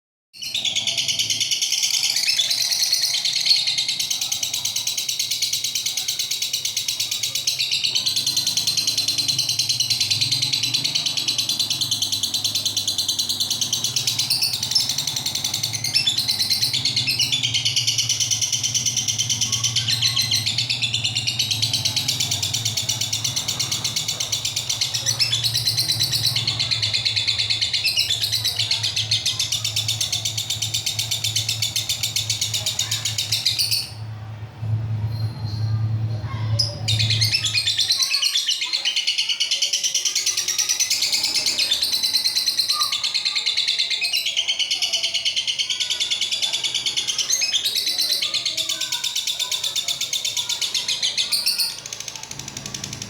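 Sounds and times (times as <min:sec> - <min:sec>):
lovebird chattering trills: 0:00.4 - 0:34.0, 0:36.3 - 0:53.0.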